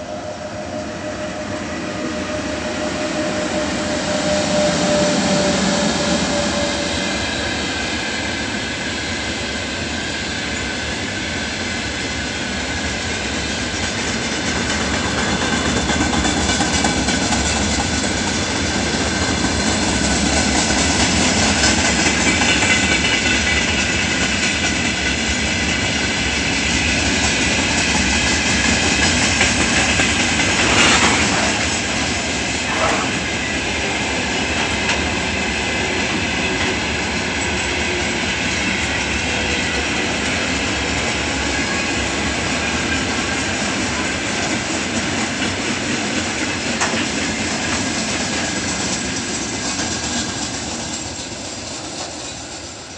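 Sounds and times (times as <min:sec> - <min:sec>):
train wheels clattering over rail joints: 0:07.7 - 0:52.9.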